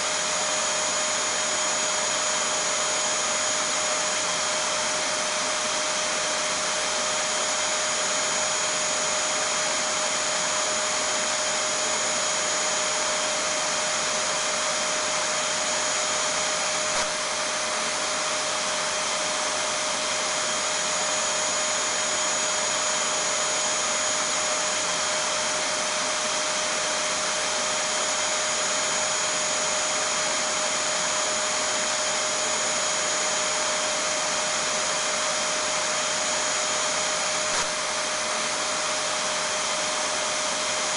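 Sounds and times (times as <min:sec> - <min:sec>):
vacuum cleaner motor running: 0:00.0 - 0:40.9.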